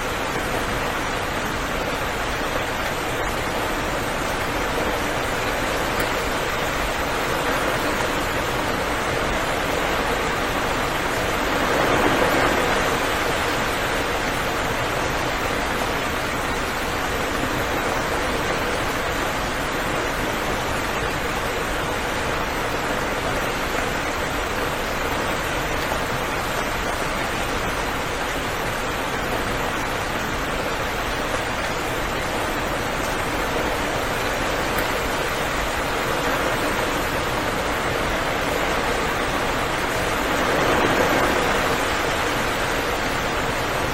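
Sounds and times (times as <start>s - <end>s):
dense rainfall hiss: 0.0s - 43.9s.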